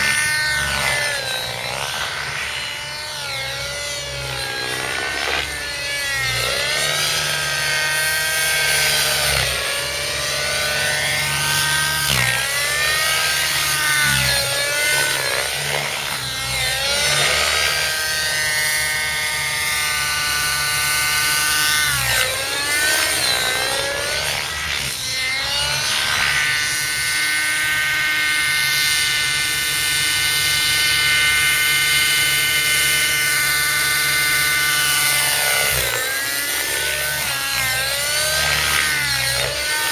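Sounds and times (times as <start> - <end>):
model helicopter engine whine: 0.0 - 39.9.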